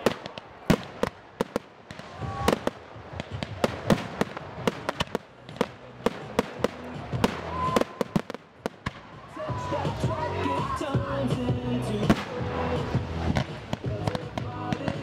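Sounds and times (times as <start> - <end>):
fireworks bangs and cracks: 0.0 - 10.2, 10.8 - 15.0.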